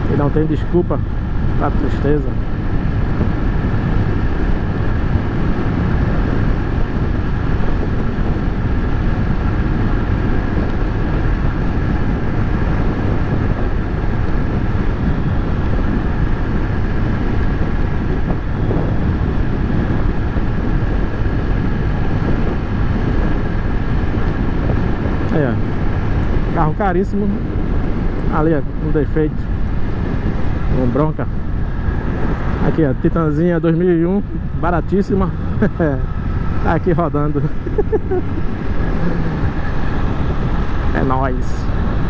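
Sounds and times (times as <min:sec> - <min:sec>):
motorcycle engine running: 0:00.0 - 0:42.0
wind on microphone: 0:00.0 - 0:42.0.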